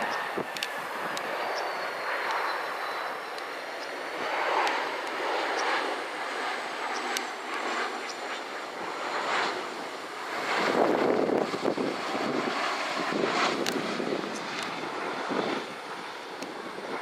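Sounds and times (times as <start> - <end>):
faint high engine whine: 0.0 - 17.0
jet engine rush: 0.0 - 17.0.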